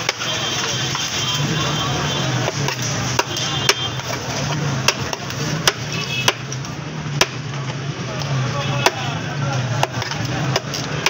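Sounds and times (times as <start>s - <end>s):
background chatter: 0.0s - 11.0s.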